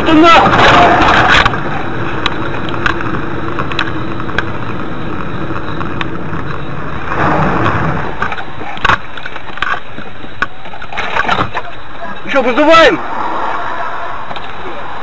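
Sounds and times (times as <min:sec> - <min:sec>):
car running: 0:00.0 - 0:15.0.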